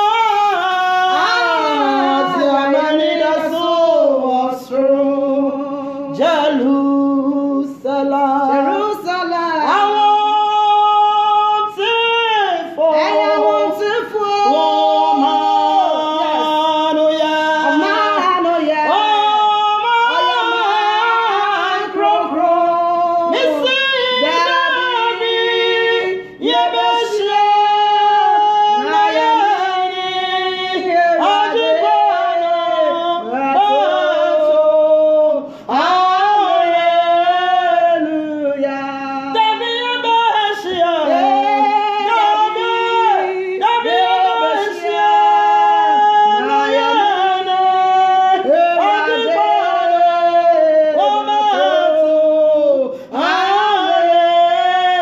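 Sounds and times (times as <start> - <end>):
women singing worship song: 0.0 - 55.0.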